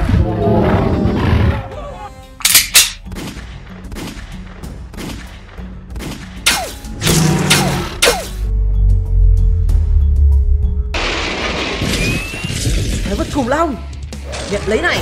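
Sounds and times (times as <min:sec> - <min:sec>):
background music: 0:00.0 - 0:11.2, 0:12.1 - 0:15.0.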